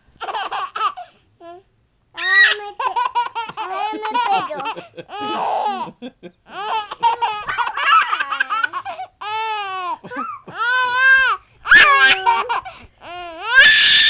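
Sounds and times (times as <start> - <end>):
baby laughing: 0.2 - 1.1, 2.2 - 13.9.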